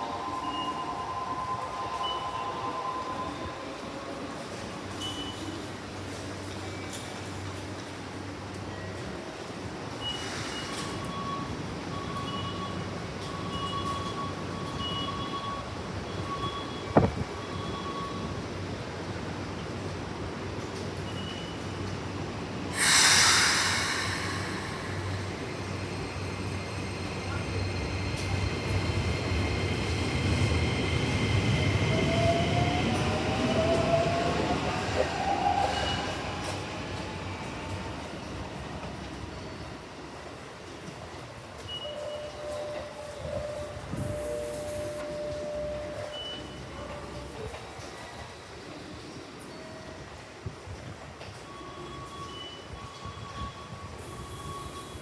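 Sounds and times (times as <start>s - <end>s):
train rumble and hiss: 0.0s - 55.0s.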